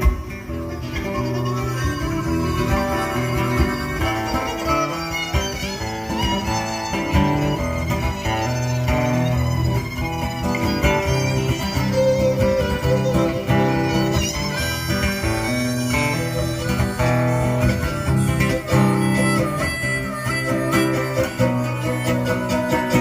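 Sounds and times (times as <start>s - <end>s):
bowed string melody: 0.0s - 23.0s
plucked string instrument: 0.0s - 23.0s.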